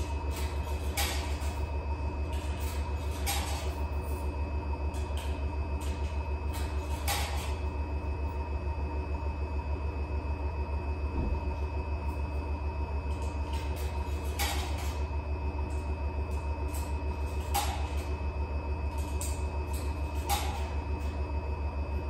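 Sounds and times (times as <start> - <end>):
washing machine spinning: 0.0 - 22.0.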